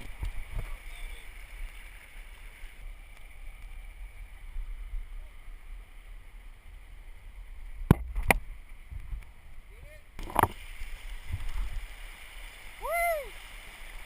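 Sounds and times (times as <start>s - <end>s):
river water rumble: 0.0s - 14.0s
wind: 0.0s - 14.0s.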